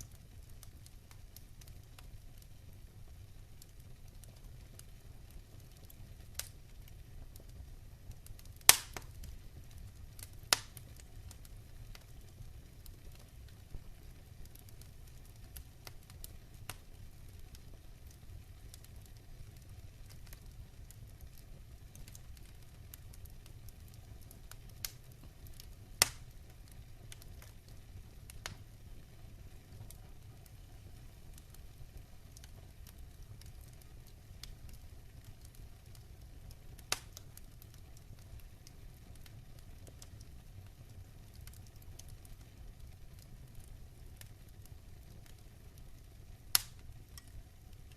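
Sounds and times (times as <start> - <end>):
fire crackling and popping: 0.0 - 47.9
low rumble of flame: 0.0 - 47.9.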